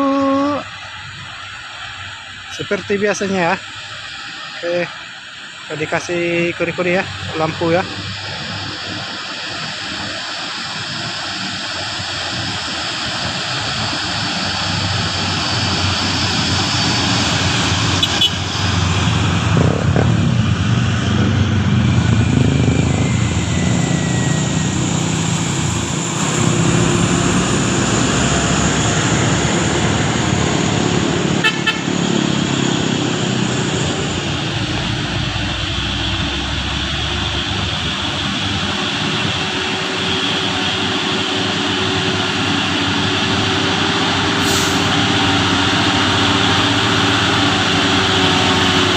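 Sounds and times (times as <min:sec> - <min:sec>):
road and traffic noise: 0:00.0 - 0:48.9
heavy truck engine running: 0:07.0 - 0:48.9.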